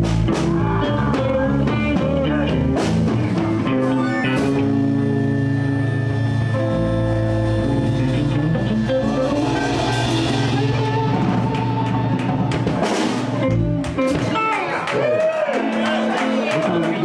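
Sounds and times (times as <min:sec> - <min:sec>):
live blues band playing: 0:00.0 - 0:17.0.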